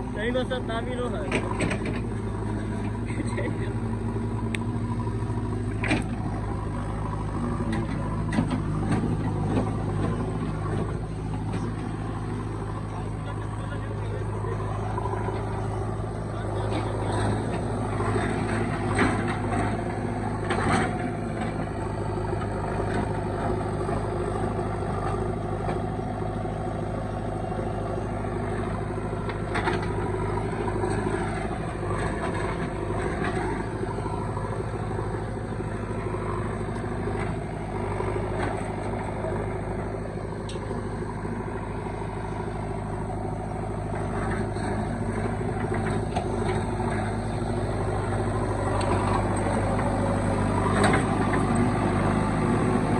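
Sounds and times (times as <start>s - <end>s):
diesel machinery engine running: 0.0s - 52.9s.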